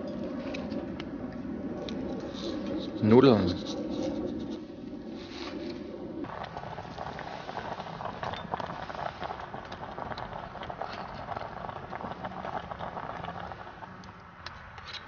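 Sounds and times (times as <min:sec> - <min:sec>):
pot boiling: 0:00.0 - 0:15.0
wood fire crackling and hissing: 0:00.0 - 0:15.0.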